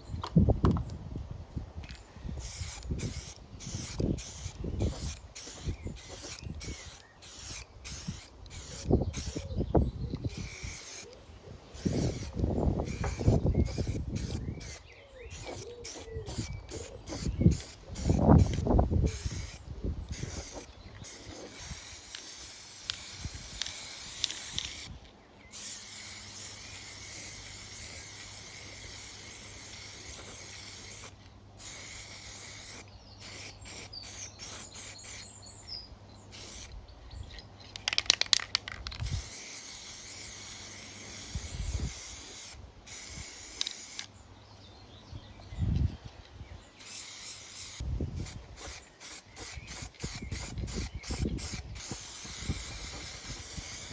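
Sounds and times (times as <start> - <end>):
spray can rattle: 2.4 - 9.5, 10.1 - 11.1, 11.7 - 35.2, 36.3 - 44.1, 46.8 - 53.9
aerosol spray can hissing: 2.4 - 35.3, 36.3 - 36.7, 37.8 - 44.1, 46.8 - 53.9.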